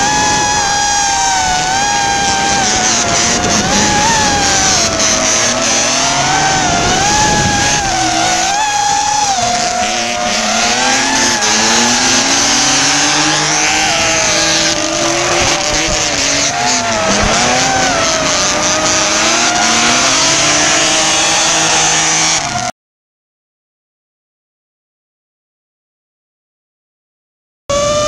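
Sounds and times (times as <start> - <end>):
car engines revving: 0.0 - 22.7, 27.7 - 28.0
drone propellers whining: 0.0 - 22.7, 27.7 - 28.0
tyres squealing: 0.0 - 22.7.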